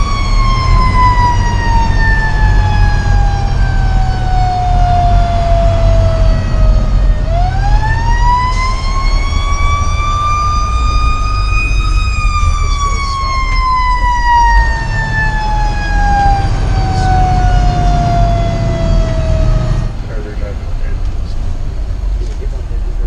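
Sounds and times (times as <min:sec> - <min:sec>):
fire engine siren winding: 0:00.0 - 0:20.0
engine rumble: 0:00.0 - 0:23.0.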